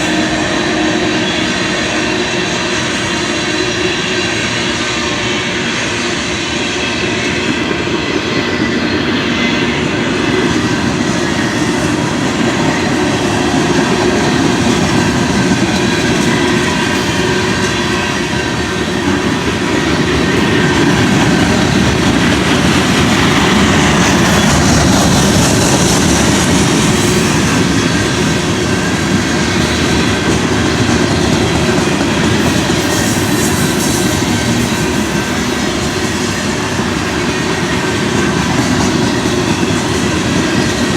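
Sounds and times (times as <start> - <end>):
freight train wheels clattering: 0.0 - 40.9.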